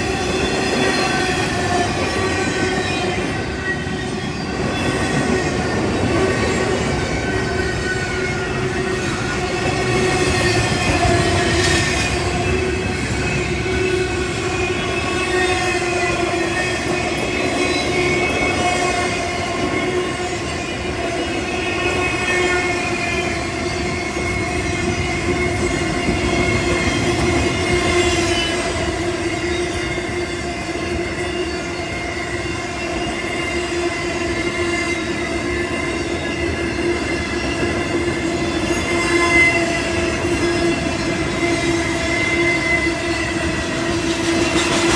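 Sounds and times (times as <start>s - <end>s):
freight train rolling past: 0.0s - 44.9s.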